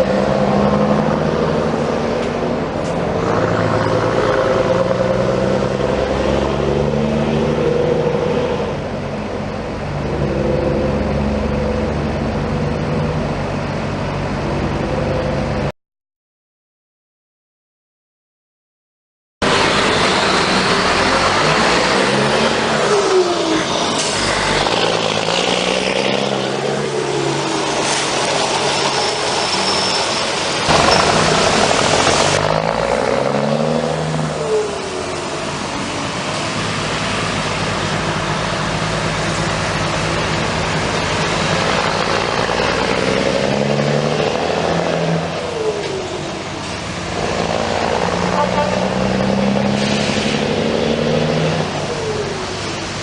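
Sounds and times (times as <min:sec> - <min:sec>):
diesel truck engine revving: 0:00.0 - 0:15.7, 0:19.4 - 0:53.0.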